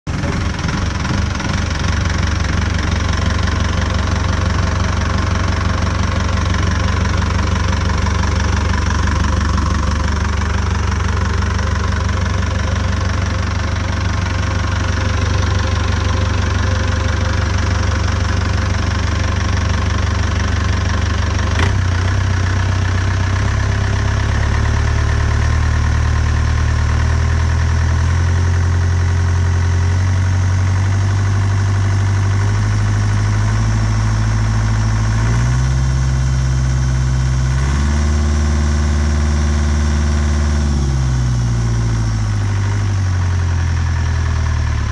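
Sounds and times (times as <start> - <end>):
diesel engine idling: 0.1 - 44.9.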